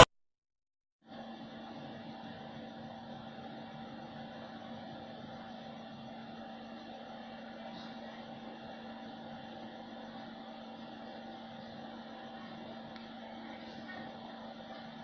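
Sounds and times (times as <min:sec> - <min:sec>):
faint machine hum: 0:01.1 - 0:15.0.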